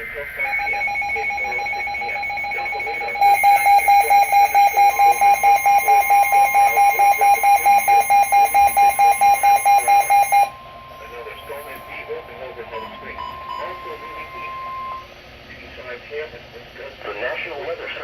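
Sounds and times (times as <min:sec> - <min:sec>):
alert tone beeping: 0:00.0 - 0:15.1
faint steady tone: 0:00.0 - 0:15.6.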